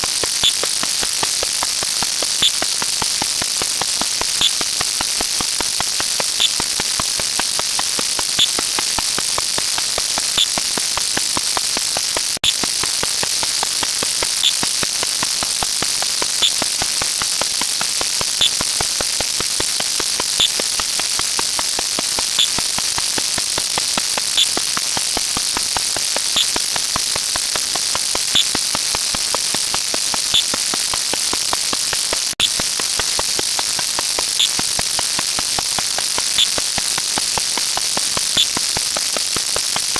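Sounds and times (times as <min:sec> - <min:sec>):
high static hiss: 0:00.0 - 0:39.9.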